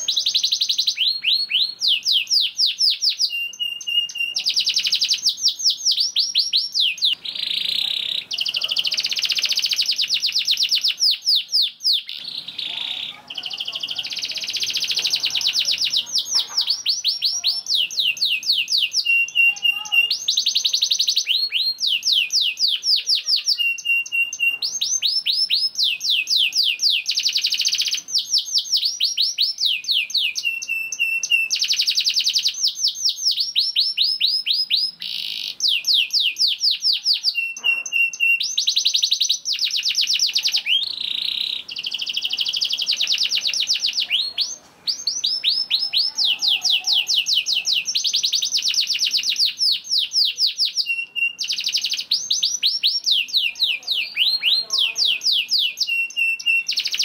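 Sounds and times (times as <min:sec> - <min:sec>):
canary whistled notes: 0:00.0 - 0:13.2, 0:14.7 - 0:33.4, 0:34.0 - 0:54.7
canary singing fast trills: 0:00.0 - 0:57.0.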